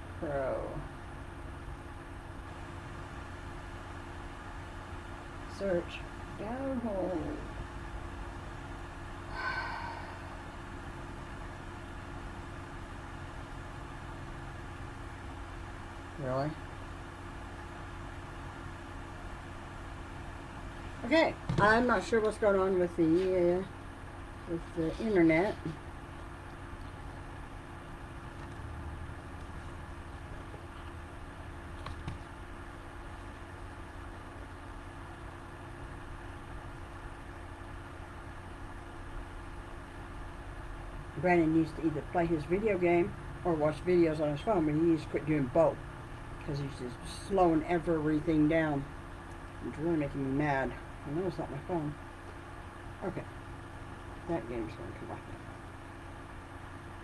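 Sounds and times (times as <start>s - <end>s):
room noise hum and hiss: 0.0s - 57.0s.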